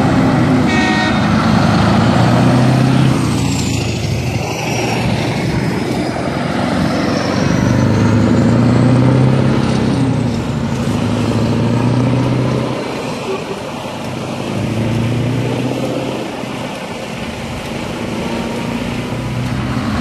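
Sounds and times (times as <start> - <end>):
heavy truck diesel engines passing: 0.0 - 20.0.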